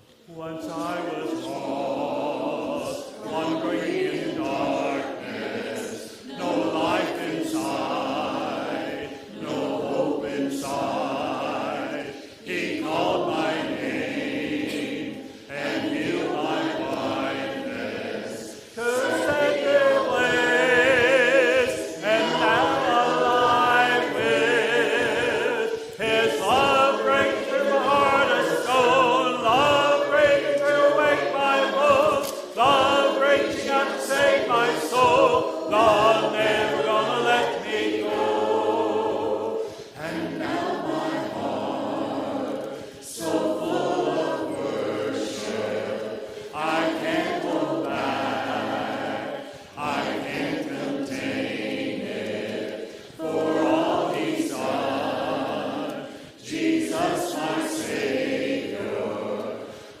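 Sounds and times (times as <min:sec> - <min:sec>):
group singing worship song: 0:00.0 - 1:00.0.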